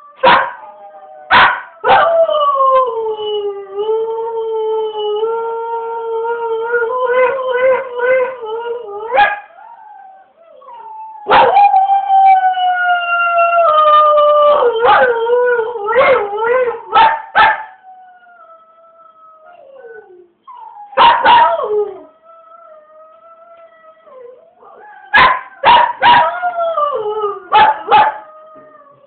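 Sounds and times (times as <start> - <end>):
dog howling: 0.0 - 29.0.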